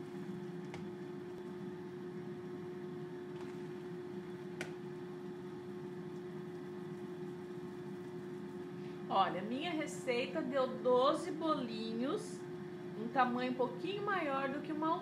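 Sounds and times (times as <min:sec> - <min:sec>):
air fryer humming: 0:00.0 - 0:15.0.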